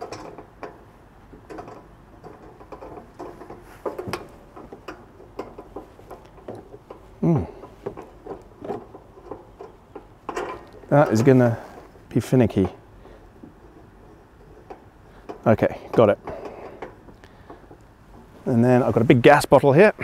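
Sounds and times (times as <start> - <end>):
metal clicks and scrapes: 0.0 - 19.2.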